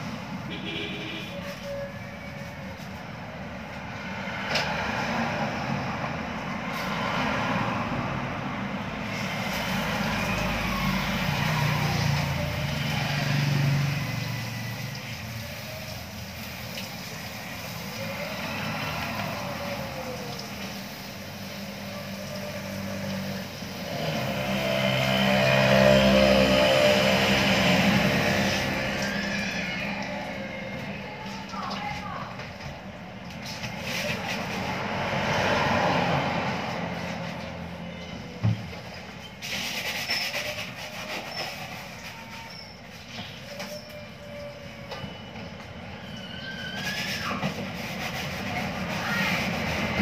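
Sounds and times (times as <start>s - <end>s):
vehicles passing by: 0.0s - 50.0s.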